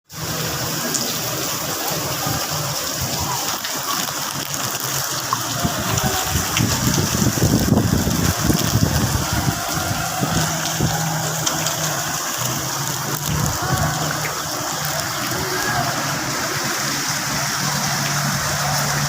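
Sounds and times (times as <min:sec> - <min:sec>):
heavy rain pouring: 0:00.1 - 0:19.0.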